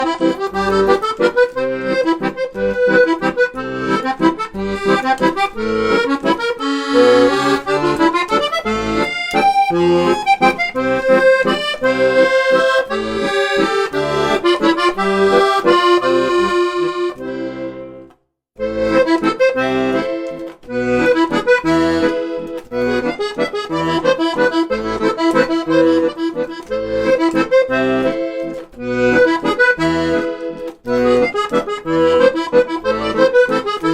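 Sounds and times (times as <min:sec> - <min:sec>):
instrumental background music: 0:00.0 - 0:33.9.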